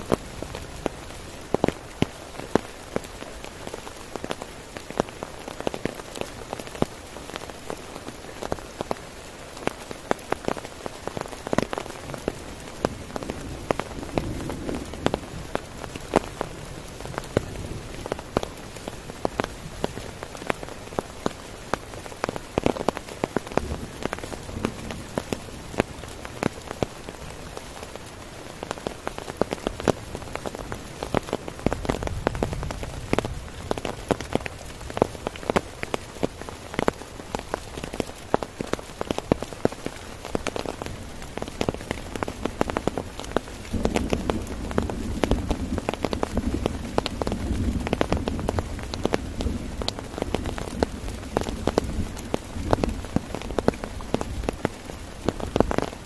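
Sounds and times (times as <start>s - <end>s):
heavy rain on tent: 0.0s - 56.0s.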